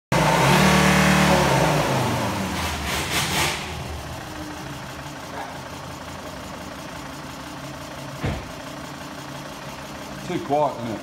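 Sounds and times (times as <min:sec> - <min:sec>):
car engine revving then idling: 0:00.1 - 0:11.0.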